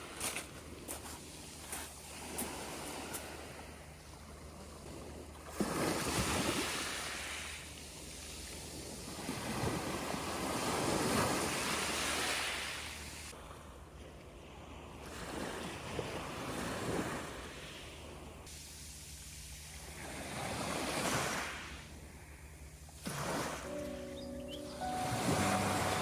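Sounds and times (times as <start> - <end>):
sea waves washing in: 0.0 - 13.5, 14.5 - 26.0.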